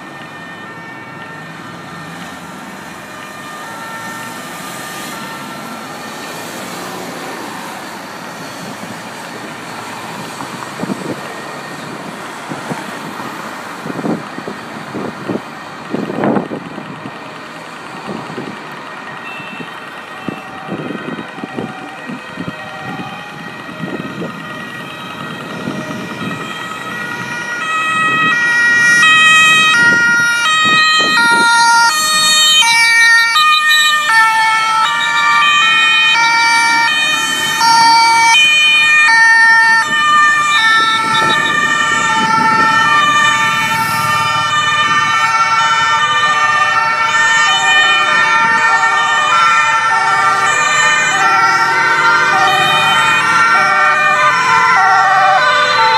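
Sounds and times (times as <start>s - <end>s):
road traffic noise: 0.0s - 55.9s
two-tone emergency sirens wailing: 0.0s - 55.9s.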